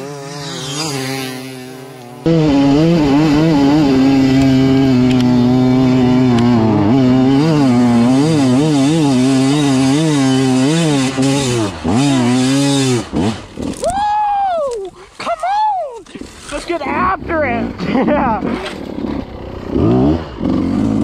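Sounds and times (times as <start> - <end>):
dirt bike engine revving: 0.0 - 13.9, 16.1 - 21.0.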